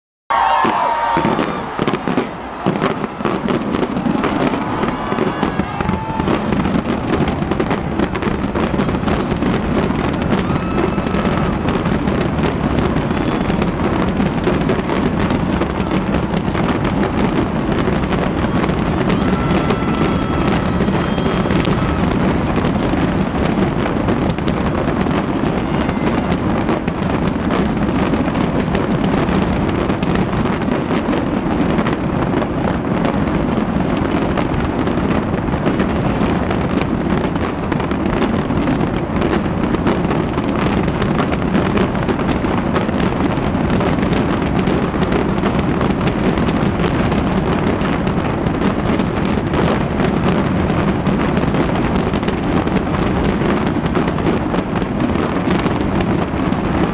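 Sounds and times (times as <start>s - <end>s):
fireworks bangs and crackles: 0.3s - 56.9s.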